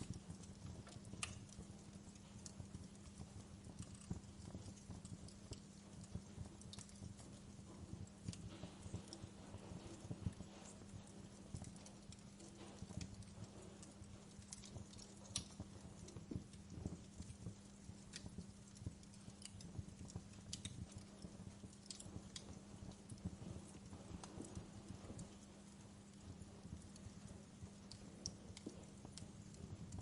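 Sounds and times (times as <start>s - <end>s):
faint steady hum: 0.0s - 30.0s
wood fire crackling: 0.0s - 30.0s.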